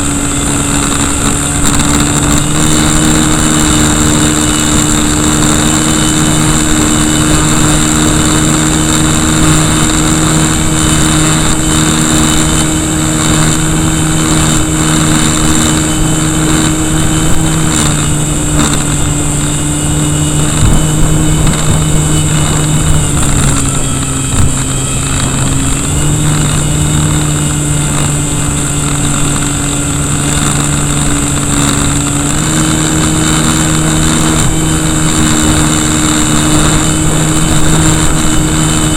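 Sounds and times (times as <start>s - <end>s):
propeller drone with high whine: 0.0s - 38.9s
wind rushing past microphone: 0.0s - 38.9s.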